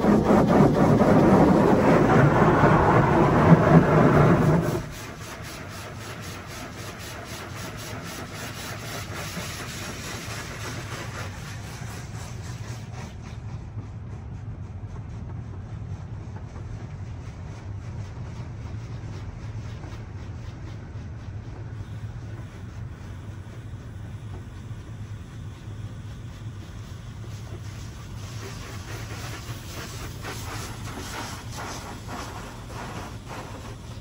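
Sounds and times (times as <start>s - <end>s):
water jets hitting car body: 0.0s - 13.5s, 18.1s - 34.0s
wash machine hiss and hum: 0.0s - 34.0s.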